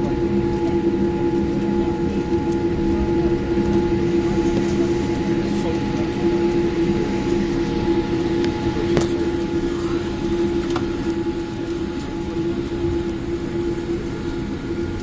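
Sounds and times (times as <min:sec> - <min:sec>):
air conditioning drone: 0:00.0 - 0:15.0.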